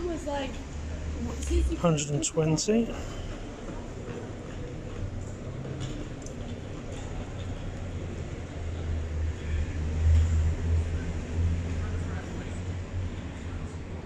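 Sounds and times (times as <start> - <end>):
heavy vehicle engine rumble: 0.0 - 14.0.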